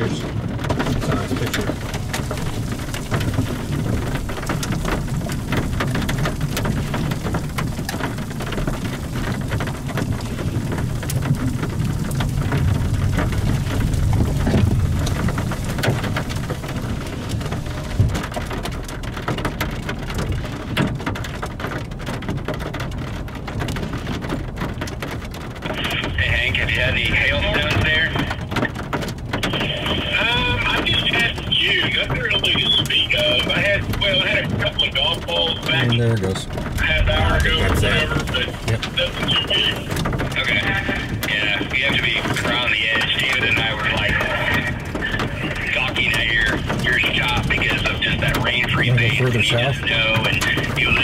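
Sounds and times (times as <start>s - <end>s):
low rumble: 0.0s - 20.4s, 25.6s - 51.0s
rain with dripping drops: 0.0s - 51.0s.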